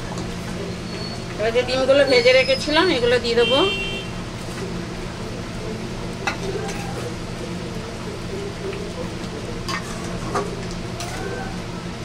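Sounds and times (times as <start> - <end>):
gravy sizzling: 0.0 - 12.0.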